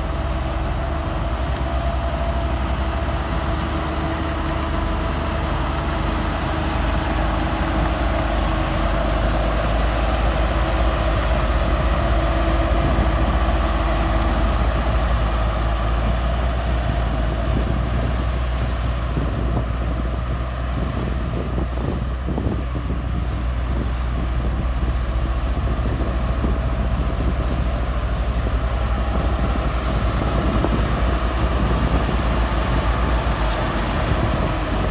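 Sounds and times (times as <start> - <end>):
heavy diesel engine under load: 0.0 - 34.9.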